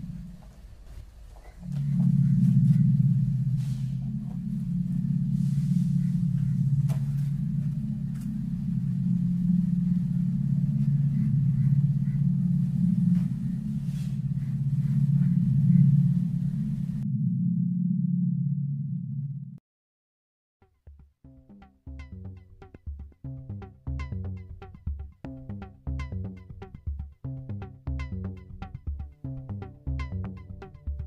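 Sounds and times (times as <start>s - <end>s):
low rumbling drone: 0.0s - 0.8s, 1.4s - 19.6s, 21.3s - 31.0s.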